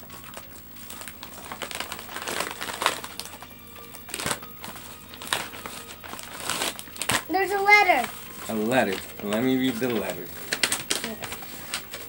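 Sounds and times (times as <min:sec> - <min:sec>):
faint background music: 0:00.0 - 0:12.0
paper envelope crinkling: 0:00.0 - 0:12.0.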